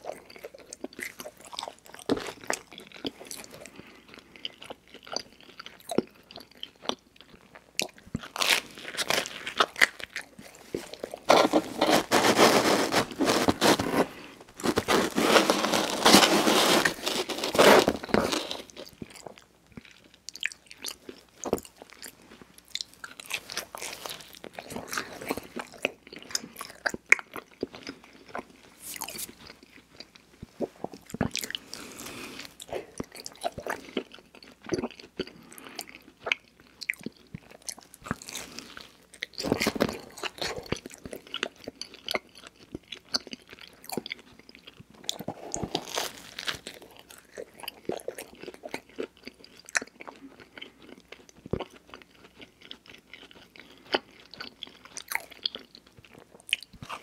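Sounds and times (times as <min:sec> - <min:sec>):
person chewing: 0:00.0 - 0:57.0.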